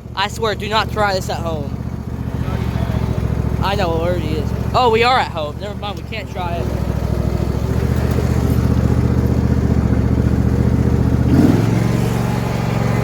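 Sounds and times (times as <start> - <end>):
riding lawnmower engine running: 0.0 - 13.0.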